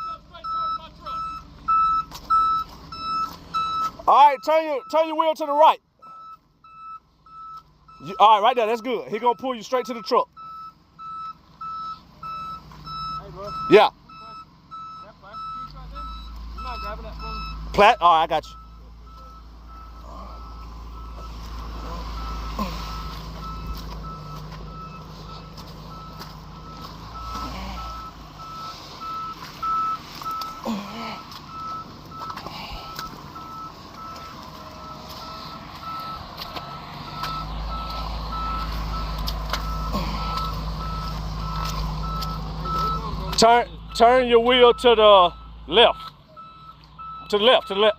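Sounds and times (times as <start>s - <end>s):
truck engine running: 0.0s - 47.9s
truck warning beeper: 0.0s - 47.9s.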